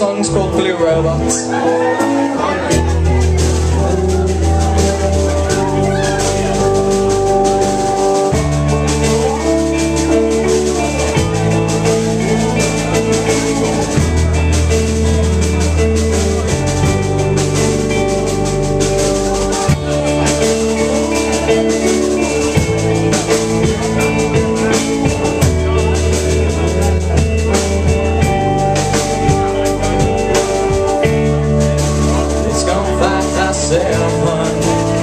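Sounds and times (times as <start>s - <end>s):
bass line: 0.0s - 35.0s
drum kit: 0.0s - 35.0s
sustained guitar or keyboard chords: 0.0s - 35.0s.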